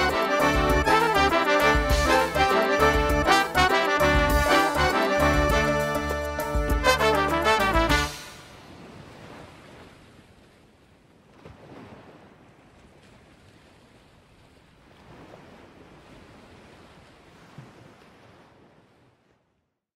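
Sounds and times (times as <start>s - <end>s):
faint sea waves washing in: 0.0s - 19.6s.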